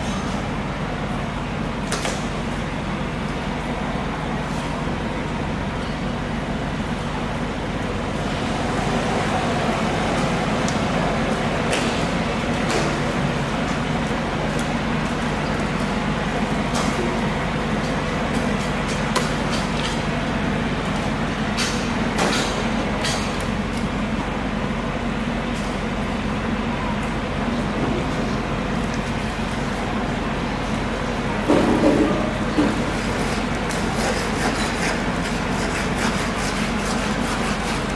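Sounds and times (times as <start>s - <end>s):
low mechanical rumble: 0.0s - 37.9s.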